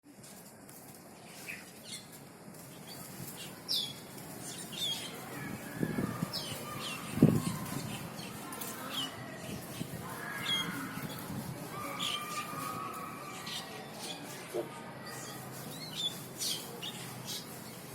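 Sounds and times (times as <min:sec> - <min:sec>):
soft whistled chatter: 0:01.3 - 0:17.9.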